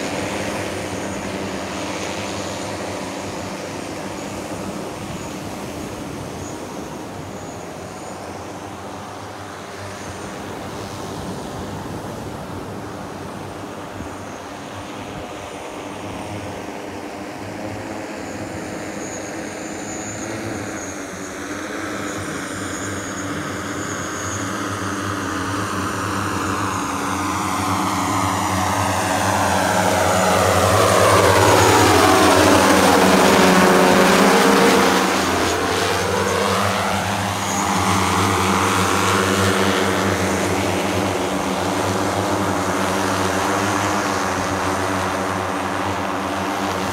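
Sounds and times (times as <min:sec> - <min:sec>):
propellers droning: 0:00.0 - 0:46.9.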